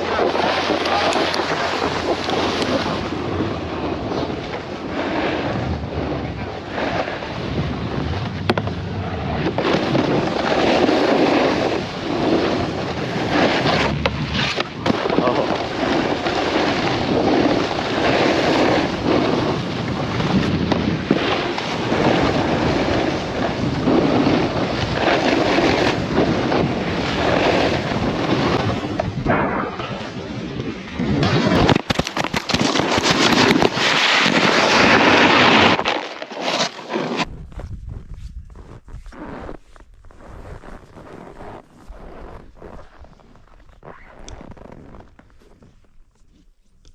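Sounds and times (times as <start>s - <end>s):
wind noise on microphone: 0.0s - 36.0s, 37.2s - 46.9s
snowboard scraping over snow: 0.0s - 46.0s.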